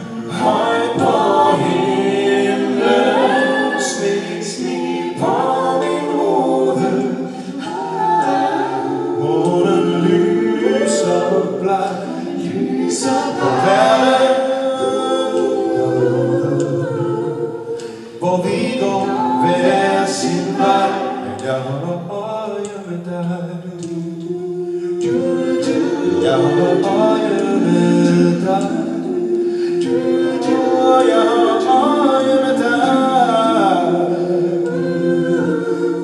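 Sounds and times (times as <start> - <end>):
vocal group singing in harmony: 0.0 - 36.0.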